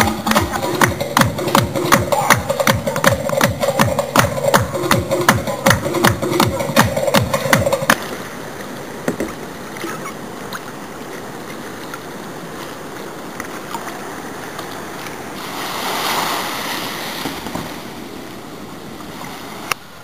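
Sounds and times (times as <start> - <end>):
water washing: 0.0 - 19.7
paddle splashing water: 0.0 - 20.0
rushing wash of water: 0.0 - 20.0.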